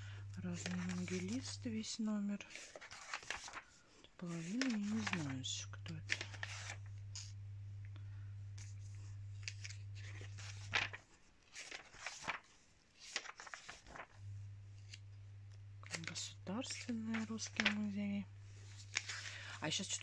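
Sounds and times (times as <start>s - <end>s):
steady low hum: 0.0s - 2.4s, 3.5s - 11.1s, 13.4s - 19.9s
magazine pages rustling: 0.3s - 7.4s, 8.6s - 15.1s, 15.8s - 20.0s.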